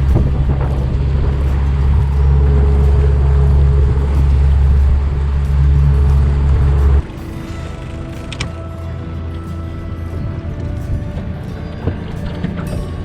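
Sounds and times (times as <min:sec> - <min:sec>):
outboard motor rumbling: 0:00.0 - 0:13.0.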